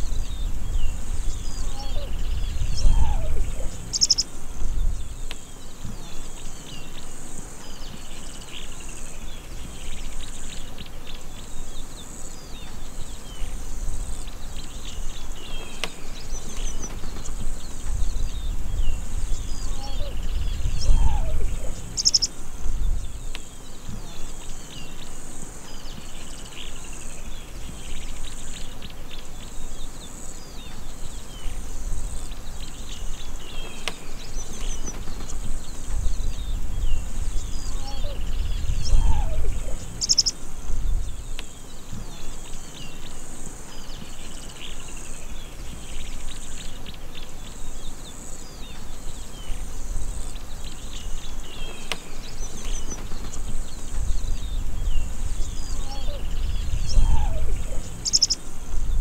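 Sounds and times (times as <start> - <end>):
high insect buzz: 0.0 - 59.0
small birds chirping: 0.0 - 59.0.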